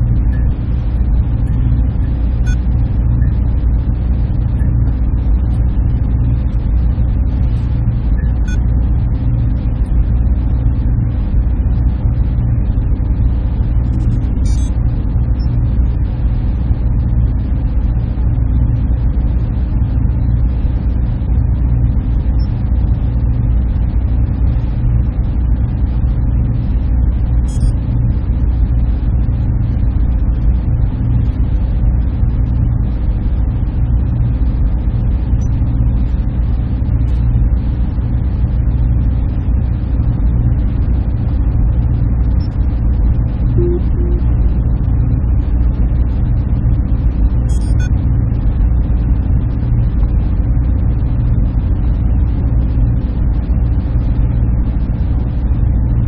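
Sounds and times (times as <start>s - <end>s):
machine hum and fan rush: 0.0s - 56.0s.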